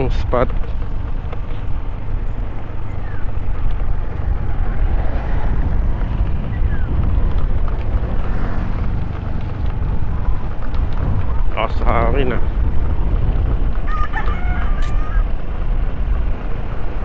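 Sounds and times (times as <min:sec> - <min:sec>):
scooter engine running: 0:00.0 - 0:17.0
wind buffeting microphone: 0:00.0 - 0:17.0.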